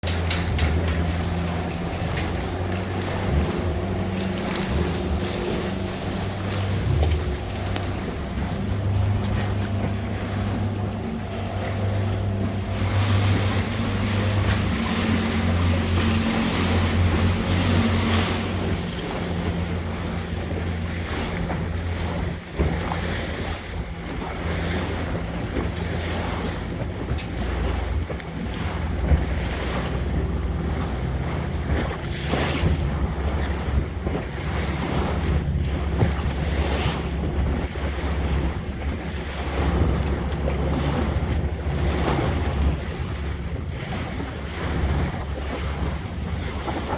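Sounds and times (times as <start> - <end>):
motorboat engine running: 0.0 - 46.9
water rushing along hull: 0.0 - 46.9
wind buffeting microphone: 0.0 - 46.9.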